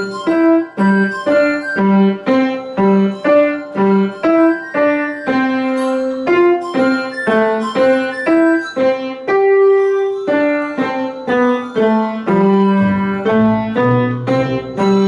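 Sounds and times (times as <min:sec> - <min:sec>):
child playing piano melody: 0:00.0 - 0:15.0.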